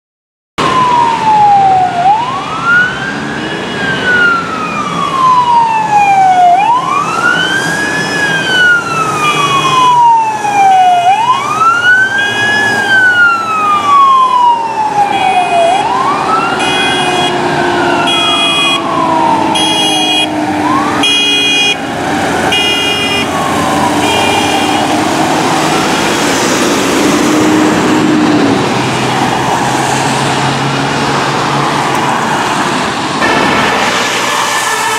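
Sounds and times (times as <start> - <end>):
fire engine siren wailing: 0.6 - 34.9
passing traffic: 0.6 - 34.9.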